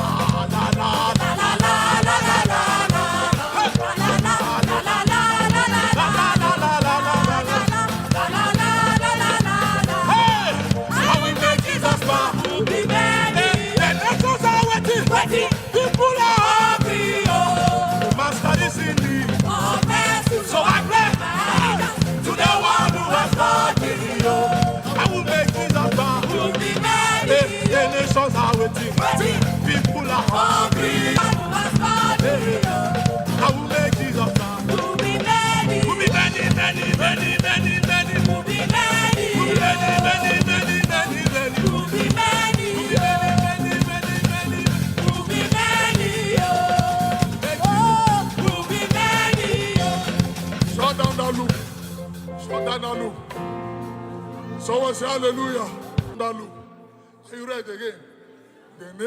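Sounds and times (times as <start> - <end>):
crowd noise: 0.0 - 57.3
gospel band and singers: 0.0 - 59.0.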